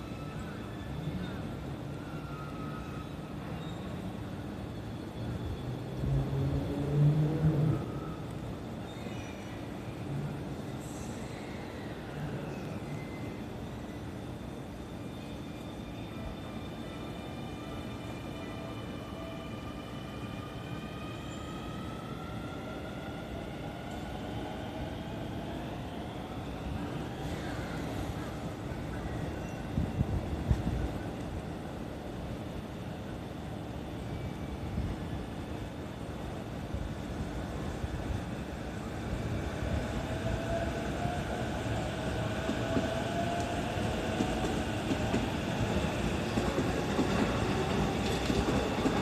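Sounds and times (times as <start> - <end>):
electric train rumbling: 0.0 - 49.0
train low drone: 0.0 - 49.0.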